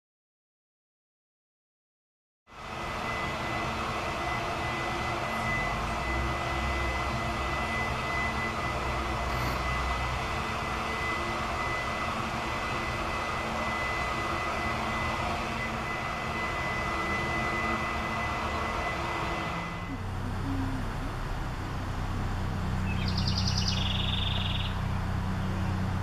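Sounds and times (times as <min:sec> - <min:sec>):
high whine: 0:02.5 - 0:26.0
distant engine rumble: 0:02.7 - 0:26.0.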